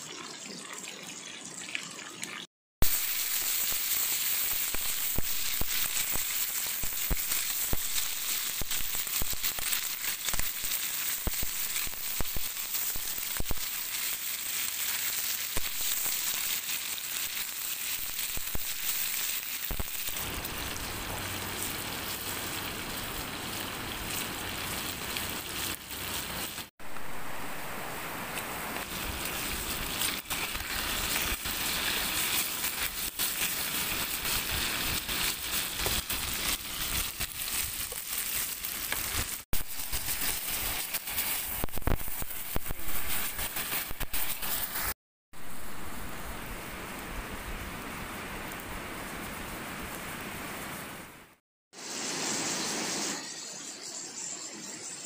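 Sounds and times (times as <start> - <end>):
food sizzling in a hot pan: 2.8 - 46.2, 51.7 - 55.0.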